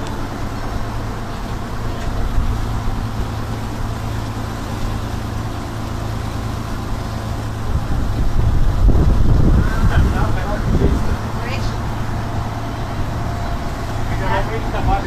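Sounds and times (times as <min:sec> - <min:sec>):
boat engine droning: 0:00.0 - 0:15.0
wake churning water: 0:00.0 - 0:15.0.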